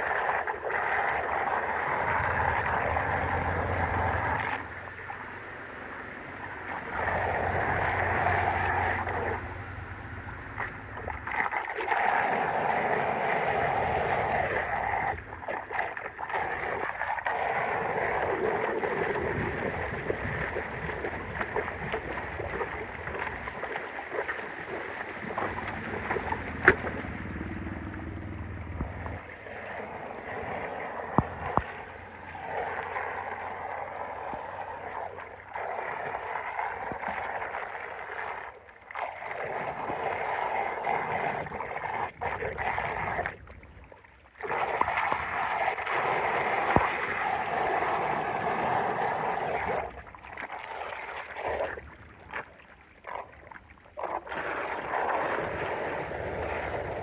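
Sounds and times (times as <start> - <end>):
water gurgling down a drain: 0.0 - 57.0.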